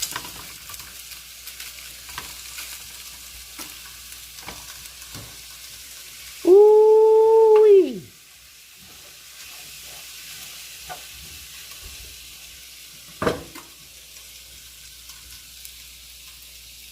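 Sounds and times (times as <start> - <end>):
food sizzling in frying pan: 0.0 - 16.9.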